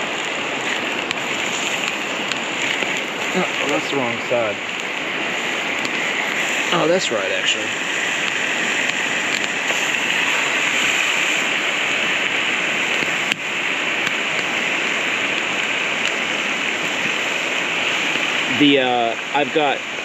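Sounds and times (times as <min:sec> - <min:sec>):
creek water over rocks: 0:00.0 - 0:20.0.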